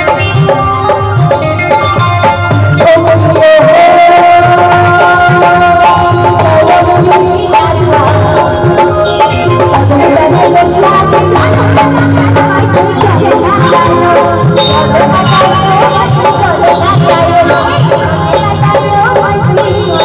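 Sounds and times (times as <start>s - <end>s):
drums: 0.0s - 20.0s
loud music over sound system: 0.0s - 20.0s.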